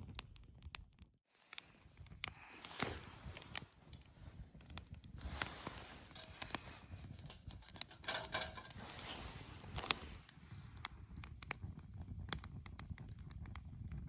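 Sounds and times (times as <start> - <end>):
clicks snaps and rustling: 0.0 - 11.6, 12.2 - 14.0.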